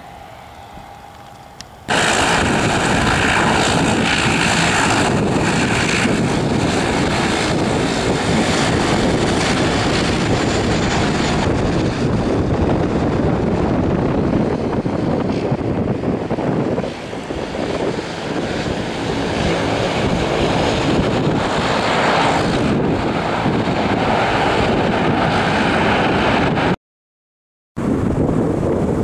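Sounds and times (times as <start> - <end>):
jet engines rushing: 0.0 - 26.8, 27.8 - 29.0.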